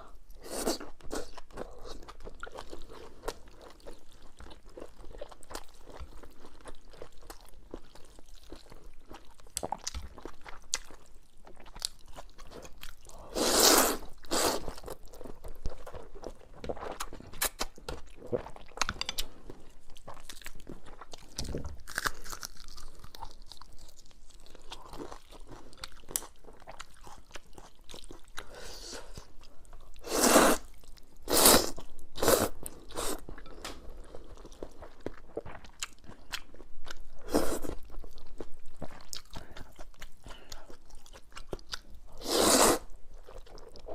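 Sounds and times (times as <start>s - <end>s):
chewing and crunching: 0.7s - 13.3s, 14.0s - 30.0s, 31.8s - 42.2s.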